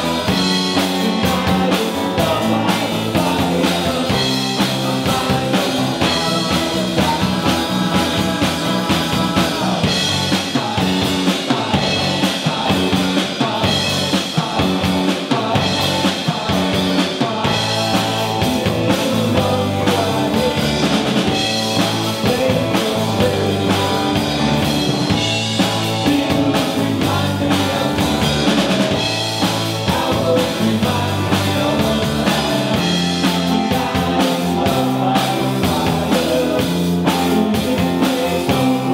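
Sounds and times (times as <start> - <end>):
drum kit: 0.0 - 38.9
electric bass: 0.0 - 38.9
electric guitar: 0.0 - 38.9
keyboard: 0.0 - 38.9
person singing lead vocal: 0.0 - 38.9.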